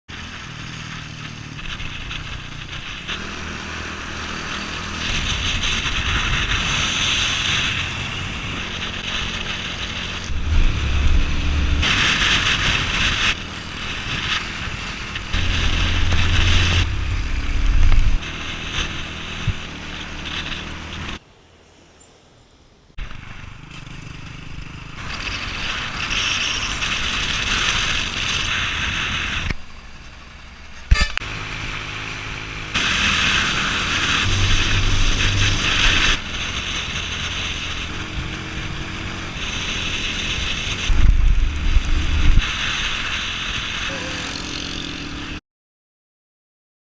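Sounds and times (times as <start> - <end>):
motorbike engine running: 0.1 - 21.2, 23.0 - 45.4
road and wind noise: 0.1 - 45.4.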